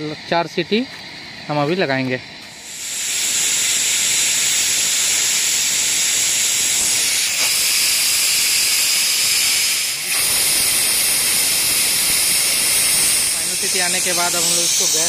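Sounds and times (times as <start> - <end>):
pressure cooker whistle hissing: 2.5 - 15.0.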